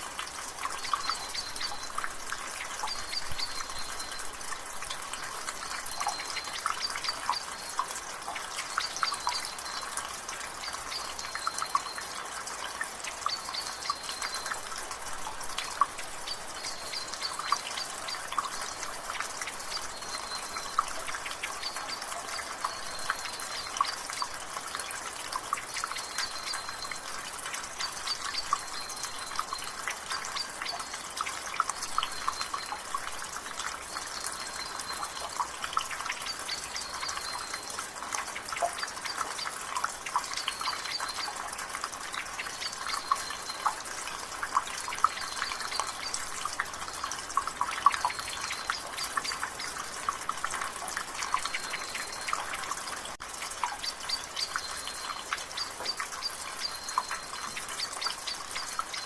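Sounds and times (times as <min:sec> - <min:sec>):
light rain hiss: 0:00.0 - 0:59.0
water dripping from gutter: 0:00.0 - 0:59.0.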